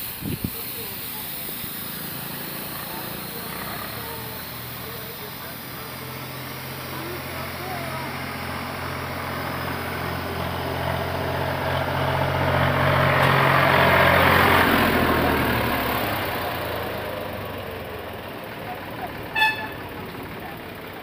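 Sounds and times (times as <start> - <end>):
motor vehicle passing: 0.8 - 21.0.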